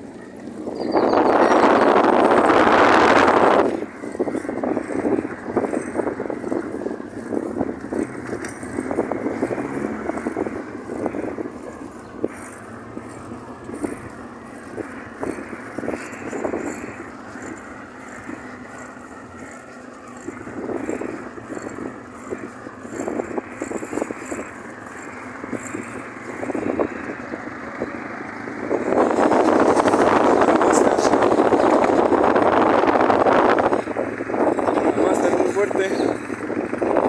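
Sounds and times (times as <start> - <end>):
road and vehicle noise: 0.0 - 37.0
wind buffeting microphone: 0.0 - 37.0.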